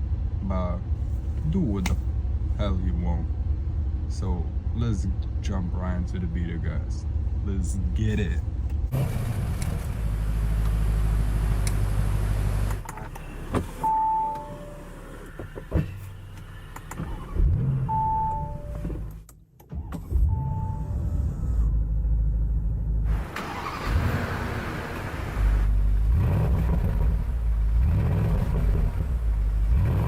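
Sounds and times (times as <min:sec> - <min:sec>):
car engine idling: 0:00.0 - 0:19.3, 0:21.6 - 0:30.0.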